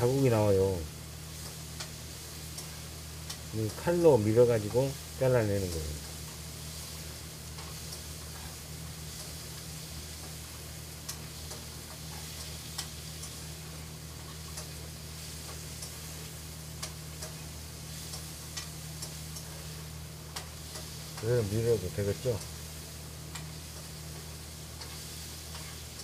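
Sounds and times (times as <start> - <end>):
constant hiss: 0.0 - 26.0
low electrical hum: 0.0 - 26.0.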